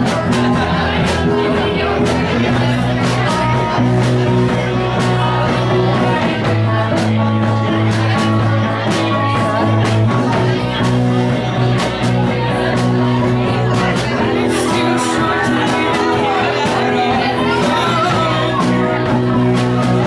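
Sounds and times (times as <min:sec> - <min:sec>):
electric guitar: 0:00.0 - 0:20.0
live rock band: 0:00.0 - 0:20.0.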